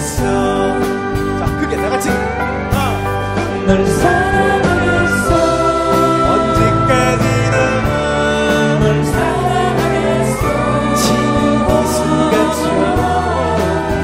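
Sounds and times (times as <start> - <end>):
drums with cymbal strokes: 0.0 - 14.0
men singing: 0.0 - 14.0
piano: 0.0 - 14.0.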